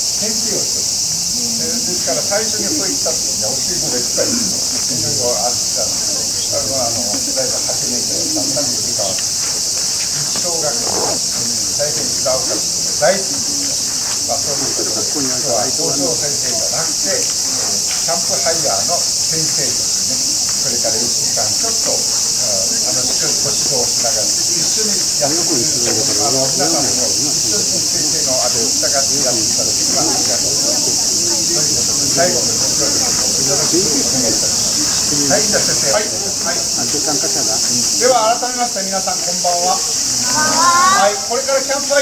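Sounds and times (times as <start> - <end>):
high-pitched insect chorus: 0.0 - 42.0
voices of adults and children: 0.0 - 42.0.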